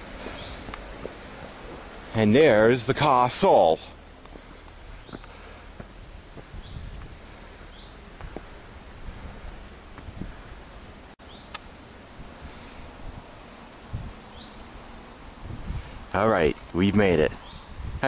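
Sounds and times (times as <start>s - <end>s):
small birds chirping: 0.0s - 18.0s
steady outdoor hiss: 0.0s - 18.0s.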